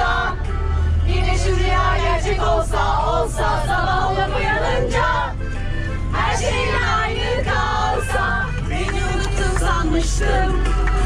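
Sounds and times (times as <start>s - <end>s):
women singing together: 0.0s - 0.4s, 1.0s - 5.4s, 6.1s - 11.0s
low rumble: 0.0s - 11.0s
music: 0.0s - 11.0s.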